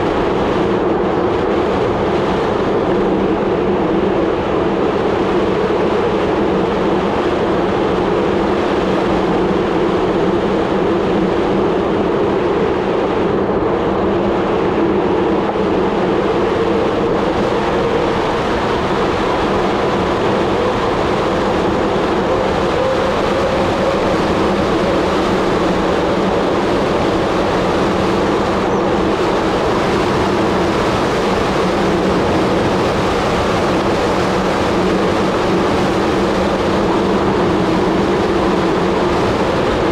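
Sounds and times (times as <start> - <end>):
bicycle tyre hum: 0.0 - 39.9
wind on microphone: 0.0 - 39.9.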